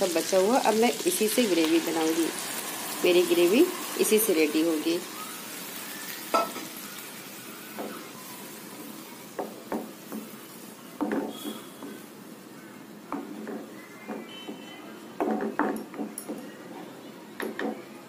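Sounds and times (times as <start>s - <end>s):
marinade sizzling in a pan: 0.0s - 15.5s.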